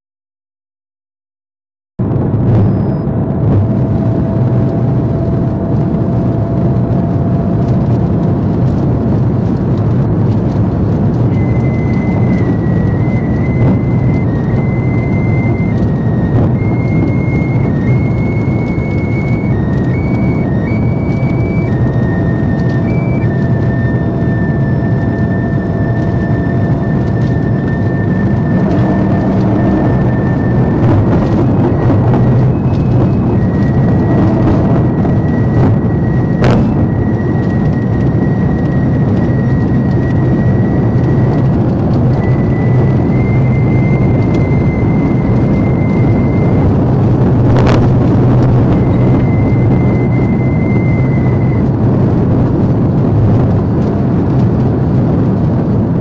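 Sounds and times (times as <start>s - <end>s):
car engine tyre and wind noise: 2.0s - 56.0s
thin high whine: 2.1s - 54.2s.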